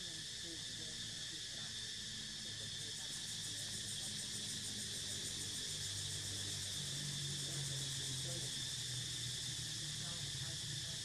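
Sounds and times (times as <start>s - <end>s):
insect chorus shrilling: 0.0s - 11.0s.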